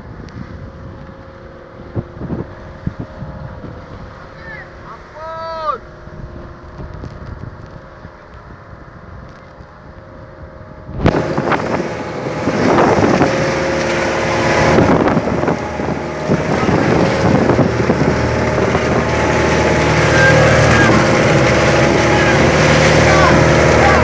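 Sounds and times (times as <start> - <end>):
wind buffeting microphone: 0.0 - 5.1, 5.8 - 24.0
boat engine running: 0.0 - 24.0
water rushing: 0.0 - 24.0.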